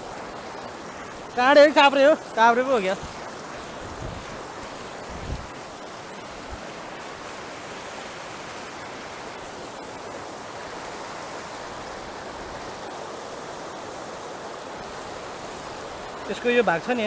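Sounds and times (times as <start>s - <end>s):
water rushing over boulders: 0.0s - 17.0s.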